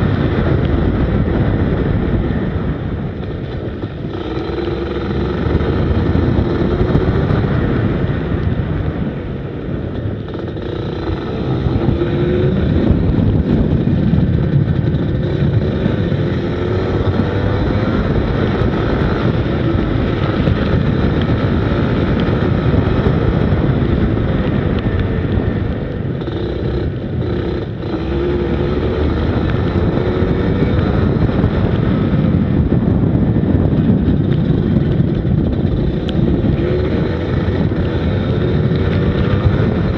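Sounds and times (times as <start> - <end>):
go-kart engine revving: 3.7 - 8.0, 10.2 - 39.9.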